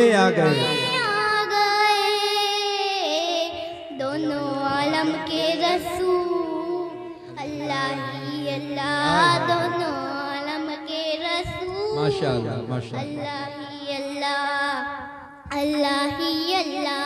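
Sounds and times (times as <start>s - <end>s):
boy singing into microphone: 0.0s - 17.0s.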